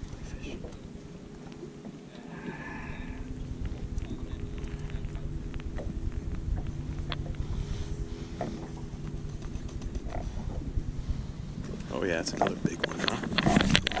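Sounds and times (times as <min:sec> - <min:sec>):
boat engine idling: 0:00.0 - 0:14.0
wind buffeting microphone: 0:00.0 - 0:14.0.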